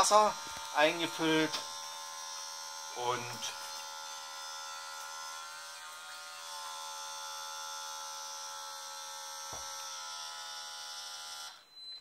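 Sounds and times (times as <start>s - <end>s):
small electric motor buzzing: 0.0s - 11.7s.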